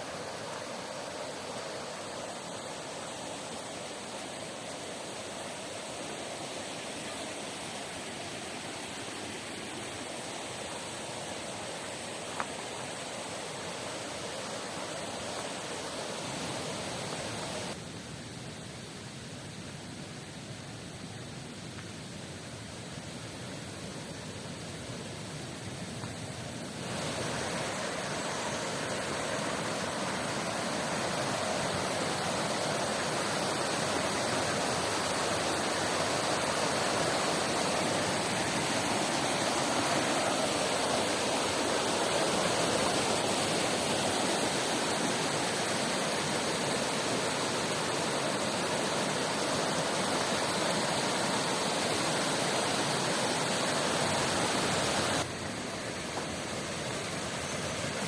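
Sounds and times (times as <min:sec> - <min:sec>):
rushing river and waterfall: 0:00.0 - 0:58.0.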